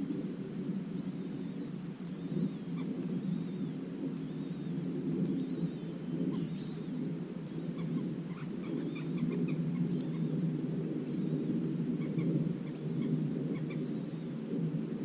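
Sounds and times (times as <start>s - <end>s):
small bird calling: 0.0s - 14.8s
steady low droning noise: 0.0s - 15.0s.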